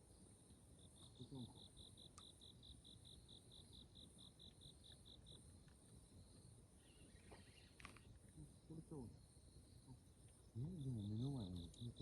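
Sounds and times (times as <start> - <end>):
cricket chirping: 0.0 - 12.0
high insect hum: 0.0 - 12.0.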